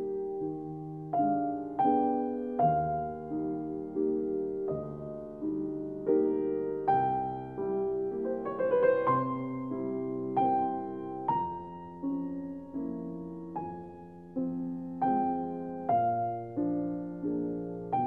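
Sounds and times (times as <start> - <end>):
slow gentle piano music: 0.0 - 18.0.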